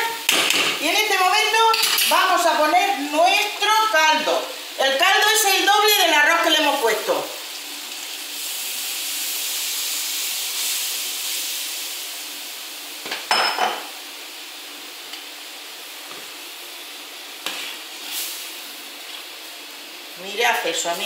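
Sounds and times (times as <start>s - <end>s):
stock sizzling in a pan: 0.0s - 21.0s.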